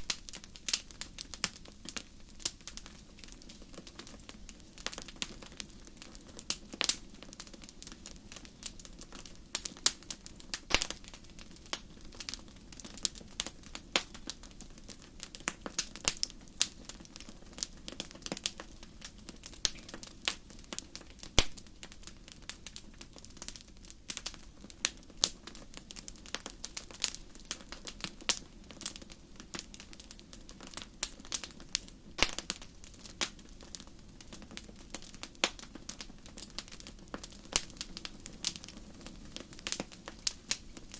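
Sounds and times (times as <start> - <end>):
fire burning: 0.0 - 40.9
wood fire pops and snaps: 0.0 - 40.9.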